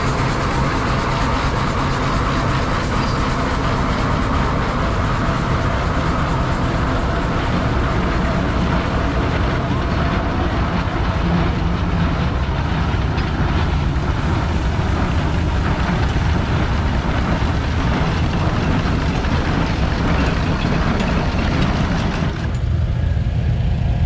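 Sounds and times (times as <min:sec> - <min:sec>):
steam traction engine running: 0:00.0 - 0:24.0.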